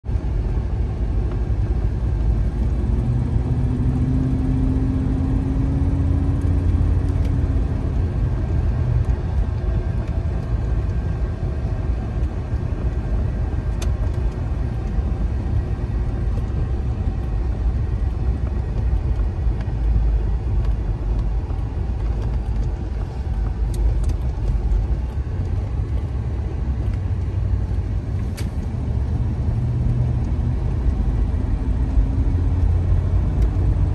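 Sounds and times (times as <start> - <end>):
car engine and road noise rumble: 0.0 - 33.9.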